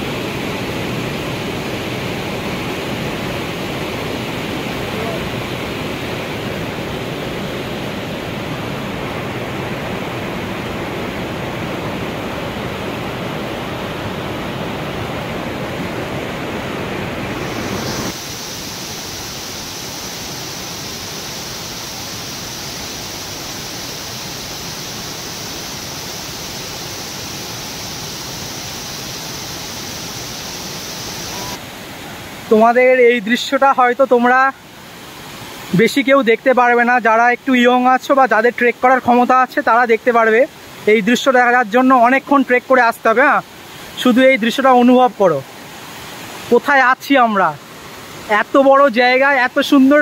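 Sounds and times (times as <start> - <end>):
waterfall and stream rushing: 0.0 - 50.0.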